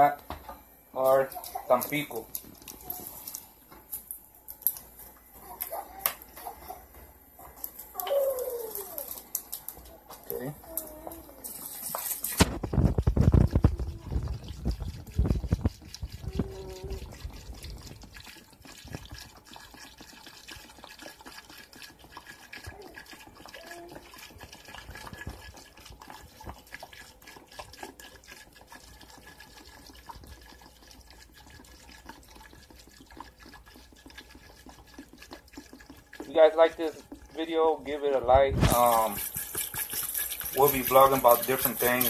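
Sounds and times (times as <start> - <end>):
drink pouring into liquid: 0.0 - 42.0.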